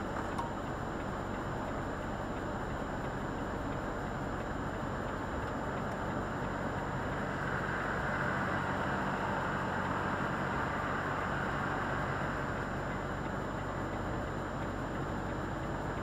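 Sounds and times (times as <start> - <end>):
lorry diesel engine humming: 0.0 - 16.0
road noise: 0.0 - 16.0.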